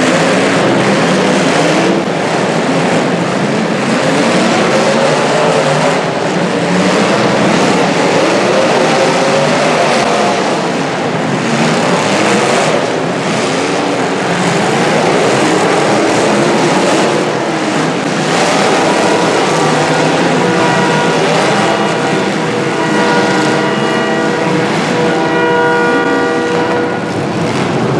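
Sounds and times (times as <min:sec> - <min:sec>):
car engines revving: 0:00.0 - 0:27.9
steady pitched drone: 0:00.0 - 0:27.9.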